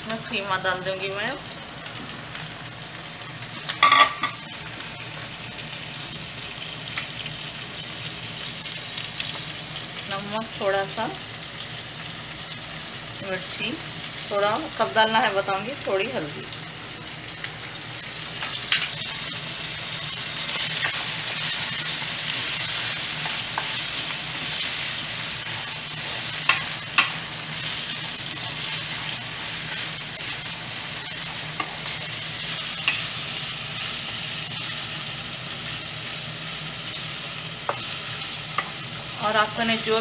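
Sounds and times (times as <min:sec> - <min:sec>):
mince sizzling in hot oil: 0:00.0 - 0:40.0.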